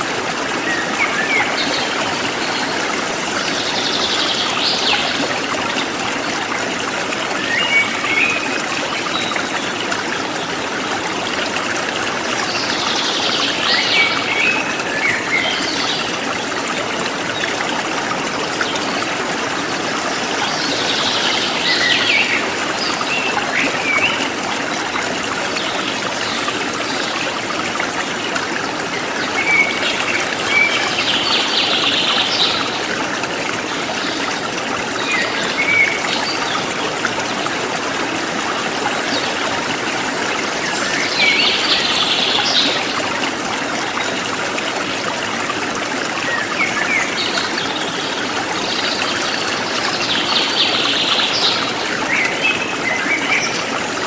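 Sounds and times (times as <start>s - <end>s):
forest stream flowing: 0.0s - 54.0s.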